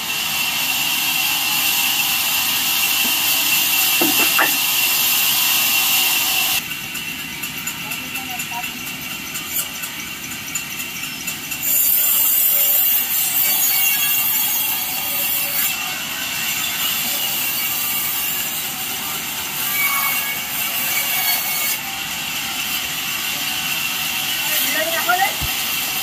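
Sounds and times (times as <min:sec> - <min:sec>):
band saw cutting through log: 0:00.0 - 0:26.0.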